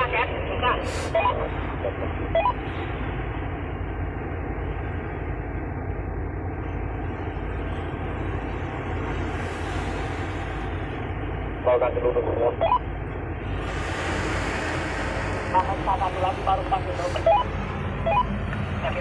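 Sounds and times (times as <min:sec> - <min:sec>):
diesel engine low rumble: 0:00.0 - 0:19.0.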